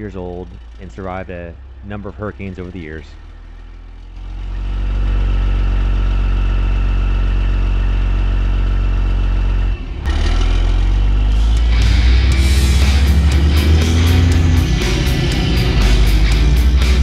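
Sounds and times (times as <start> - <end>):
diesel truck engine pulling away: 0.0 - 17.0.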